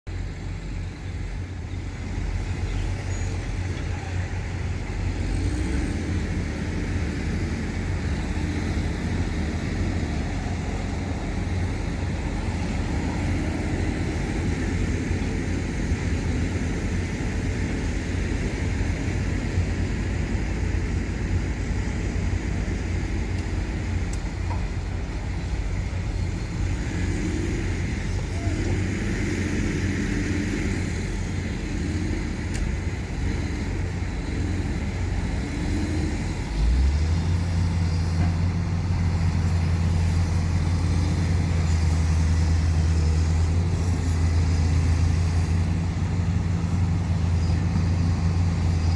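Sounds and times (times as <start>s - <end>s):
low engine rumble: 0.1s - 48.9s.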